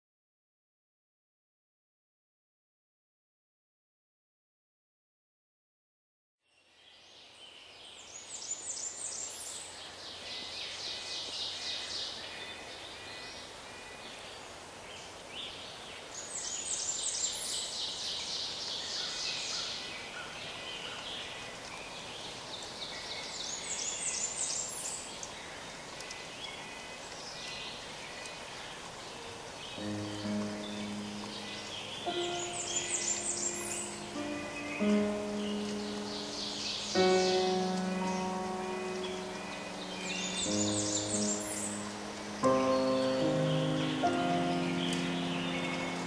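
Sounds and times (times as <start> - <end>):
songbird singing: 6.4 - 46.0
steady background hiss: 6.6 - 46.0.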